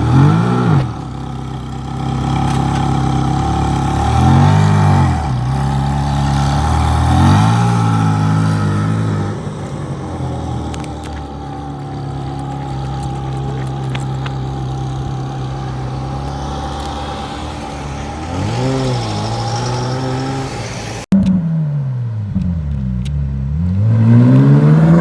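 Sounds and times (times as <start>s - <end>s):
car engine idling with throttle blip: 0.0s - 25.0s
engine with falling pitch: 0.0s - 25.0s.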